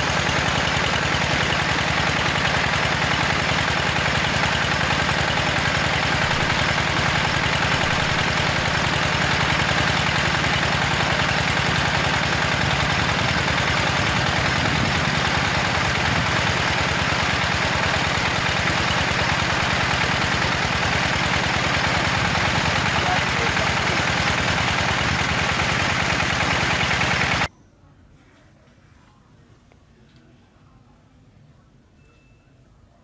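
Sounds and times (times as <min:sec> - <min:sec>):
small gasoline engine running: 0:00.0 - 0:27.5.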